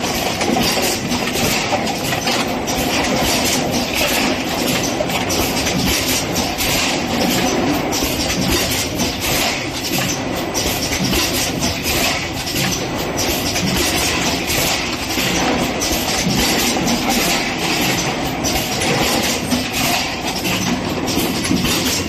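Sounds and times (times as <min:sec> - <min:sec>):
machine clattering and rattling: 0:00.0 - 0:22.0.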